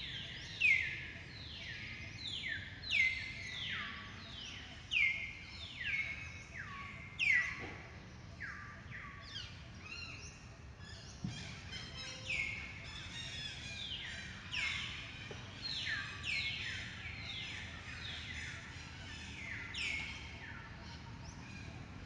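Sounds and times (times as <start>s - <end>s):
low outdoor background noise: 0.0s - 22.0s.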